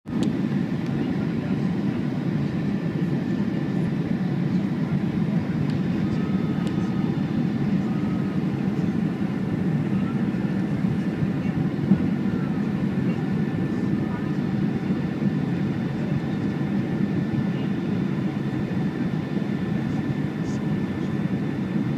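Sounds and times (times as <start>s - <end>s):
airliner rumbling in flight: 0.1s - 21.9s.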